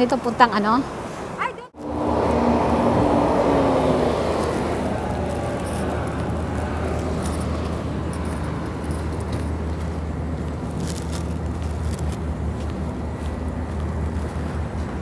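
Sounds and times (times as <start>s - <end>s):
wind noise on microphone: 1.8s - 15.0s.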